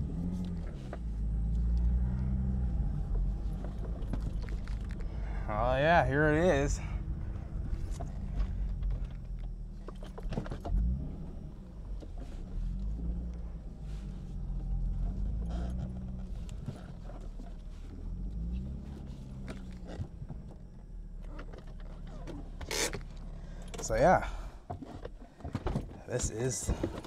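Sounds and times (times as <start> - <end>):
car engine running at low speed: 0.0 - 27.0.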